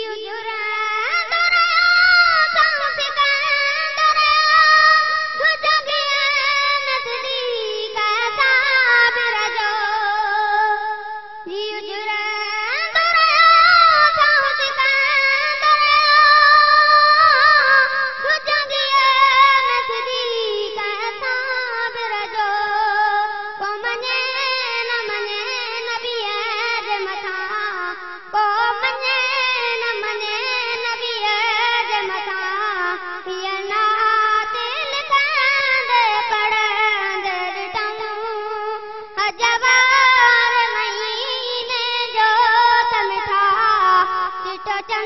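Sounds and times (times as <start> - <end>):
boy singing into a microphone: 0.0 - 45.0.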